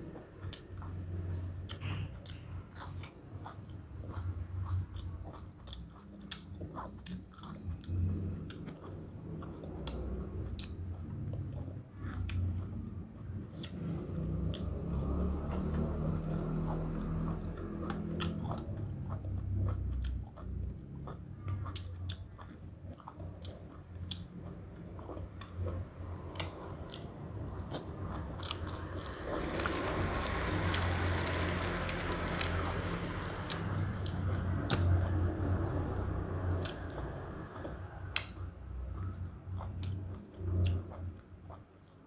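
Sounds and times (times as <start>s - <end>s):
person chewing crisp greens: 0.1s - 42.0s.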